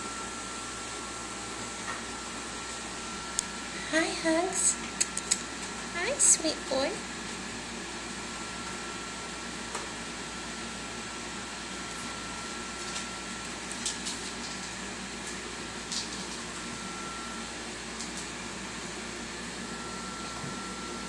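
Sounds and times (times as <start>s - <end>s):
fan-like room hiss: 0.0s - 21.0s.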